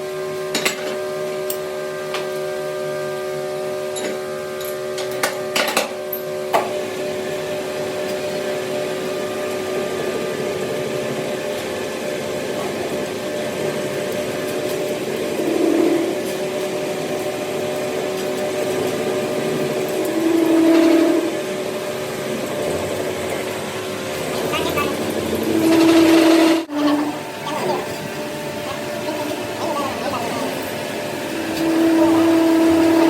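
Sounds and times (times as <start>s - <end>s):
workshop machine humming: 0.0s - 33.0s.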